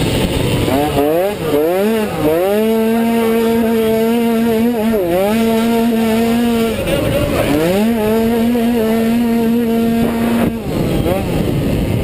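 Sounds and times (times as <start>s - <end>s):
scooter engine at high speed: 0.0s - 12.0s.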